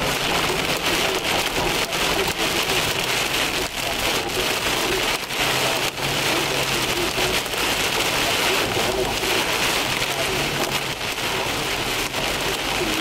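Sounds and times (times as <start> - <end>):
hailstones knocking: 0.0 - 13.0
heavy rain on car roof: 0.0 - 13.0.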